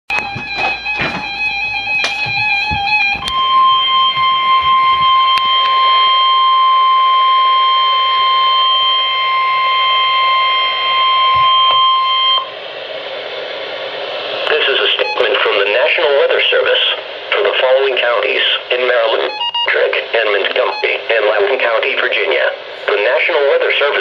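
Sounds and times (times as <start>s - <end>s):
steady warning alarm tone: 0.1s - 24.0s
radio hiss: 4.6s - 24.0s.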